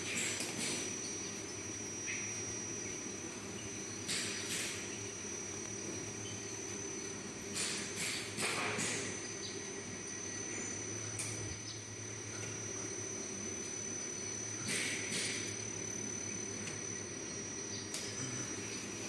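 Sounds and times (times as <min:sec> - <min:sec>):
high-pitched whine: 0:00.0 - 0:19.0
motor and conveyor hum: 0:00.0 - 0:19.0
noisy machinery bursts: 0:00.0 - 0:19.0.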